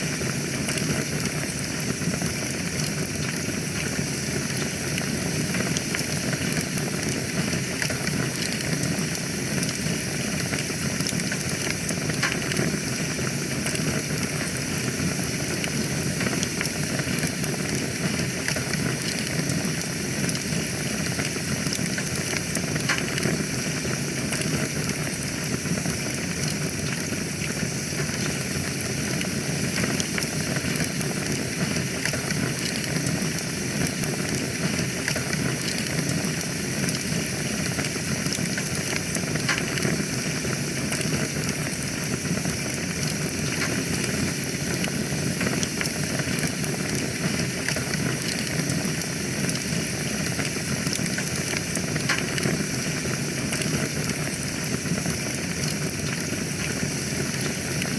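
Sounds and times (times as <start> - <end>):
wood fire crackling: 0.1 - 57.9.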